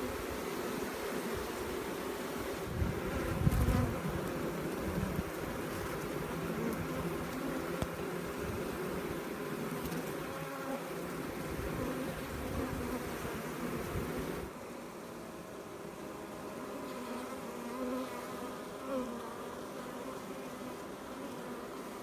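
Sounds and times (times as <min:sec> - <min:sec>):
bee swarm buzzing: 0:00.0 - 0:22.0.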